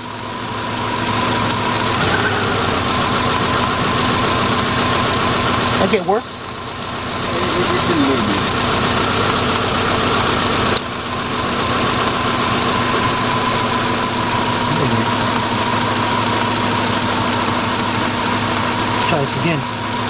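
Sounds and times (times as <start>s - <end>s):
car engine idling with misfire: 0.0s - 20.0s.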